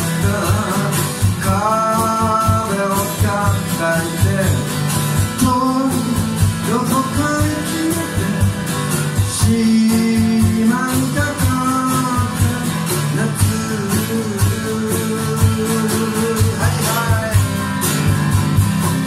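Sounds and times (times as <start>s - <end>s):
acoustic guitar strumming: 0.0s - 19.0s
man singing: 0.0s - 19.0s
percussion steady beat: 0.0s - 19.0s.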